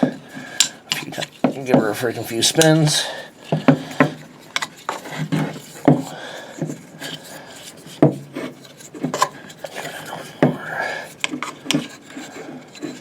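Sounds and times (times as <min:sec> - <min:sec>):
saw windlass clicking and rubbing: 0:00.0 - 0:13.0.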